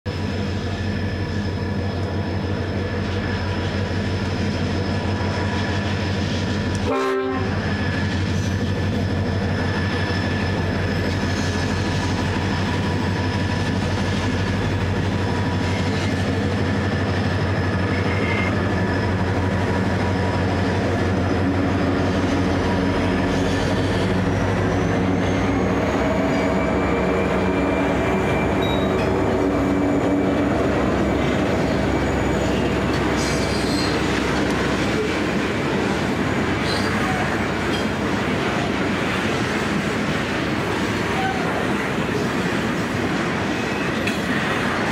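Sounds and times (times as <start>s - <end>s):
diesel locomotive engine drone: 0.0s - 44.9s
constant high whine: 0.1s - 41.0s.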